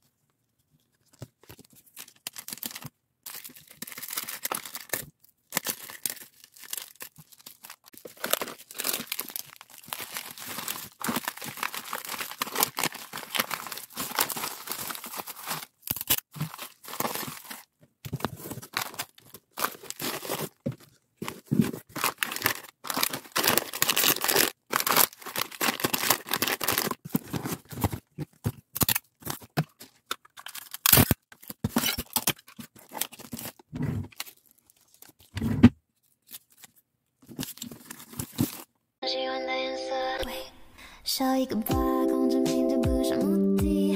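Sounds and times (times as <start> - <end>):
plastic bags crinkling: 1.1 - 35.3, 36.0 - 38.7.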